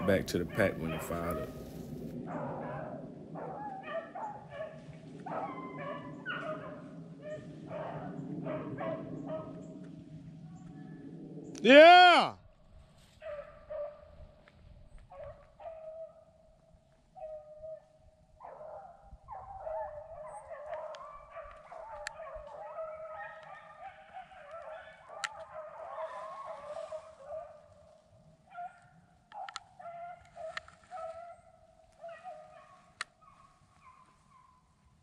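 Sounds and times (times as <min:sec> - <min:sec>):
dogs baying faintly: 0:00.0 - 0:12.3, 0:13.0 - 0:35.0.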